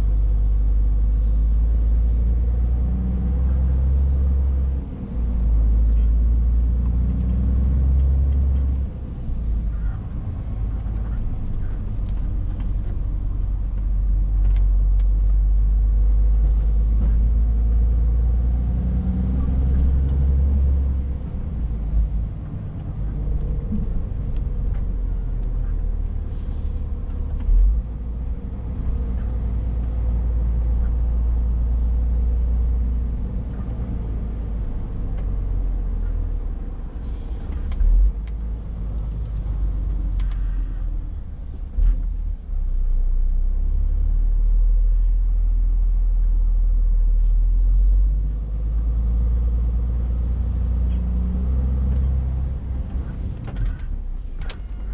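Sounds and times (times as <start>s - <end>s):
diesel truck engine rumble: 0.0s - 54.9s.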